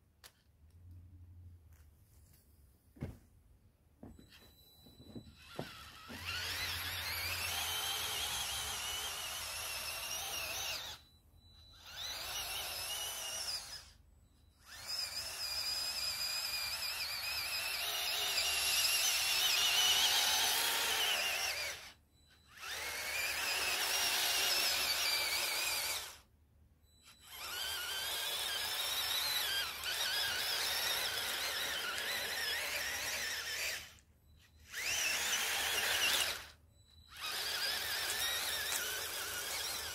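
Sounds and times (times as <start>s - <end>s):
toy electric motors whining: 4.1s - 39.9s.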